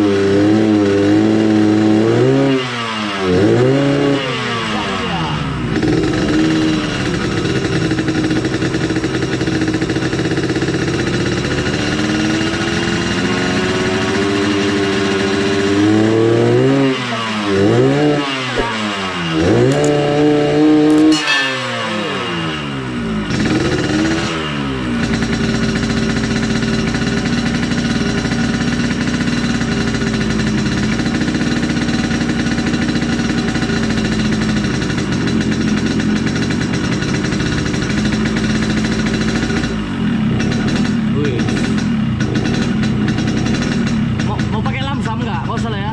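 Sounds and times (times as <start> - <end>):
engine revving: 0.0 - 45.9
two-stroke motorcycle engine idling: 0.0 - 45.9.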